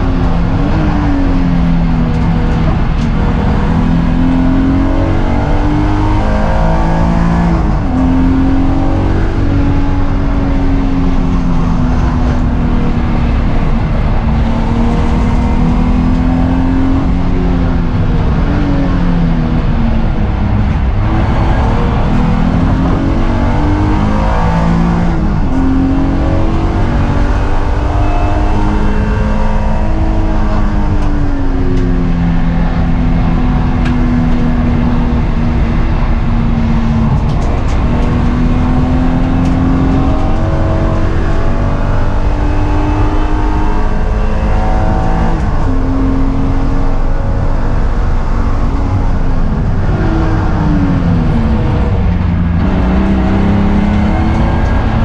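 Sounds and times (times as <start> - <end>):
car engine at full throttle: 0.0 - 55.0.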